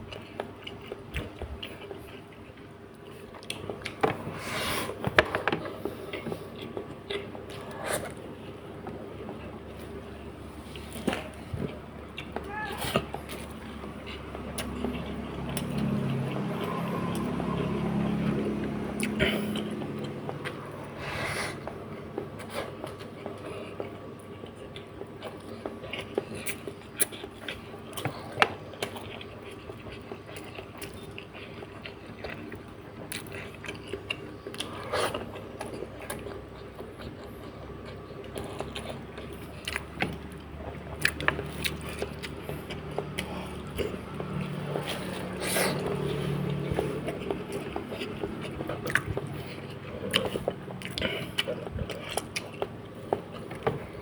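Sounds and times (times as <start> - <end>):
wet chewing and lip smacks: 0.0 - 4.0, 5.6 - 21.0, 21.6 - 54.0.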